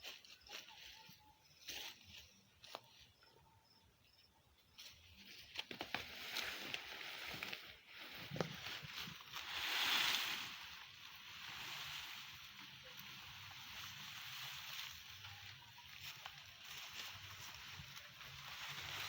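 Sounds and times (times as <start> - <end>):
dry stalks rustling and crackling: 0.0 - 3.4, 4.7 - 19.0.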